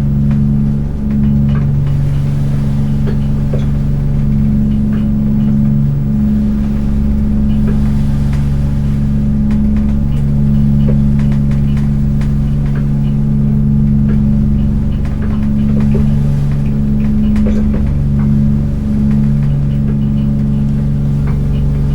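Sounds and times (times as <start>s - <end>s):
boat engine idling: 0.0s - 21.9s
faint knocks and clicks: 0.2s - 21.9s.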